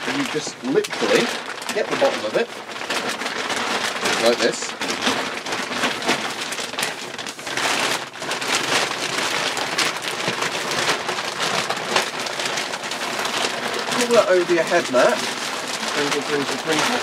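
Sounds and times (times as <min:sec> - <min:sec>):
plastic sheeting crinkling: 0:00.0 - 0:17.0.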